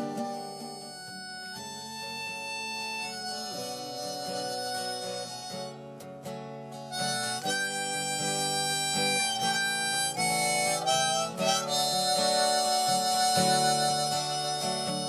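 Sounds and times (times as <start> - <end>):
harmonica melody: 0.0 - 15.0
strummed acoustic guitar: 0.0 - 15.0.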